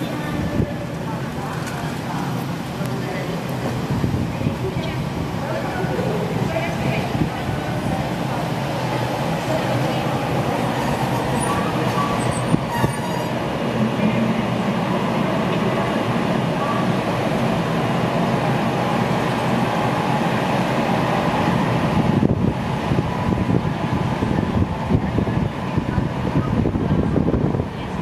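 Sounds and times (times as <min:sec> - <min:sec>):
electric locomotive rolling: 0:00.0 - 0:28.0.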